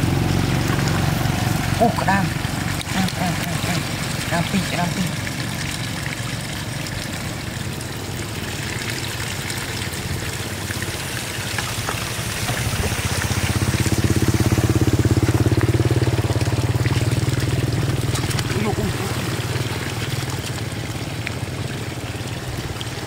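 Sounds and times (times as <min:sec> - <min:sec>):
small engine running: 0:00.0 - 0:09.2, 0:09.9 - 0:23.0
water trickling and splashing: 0:00.0 - 0:23.0.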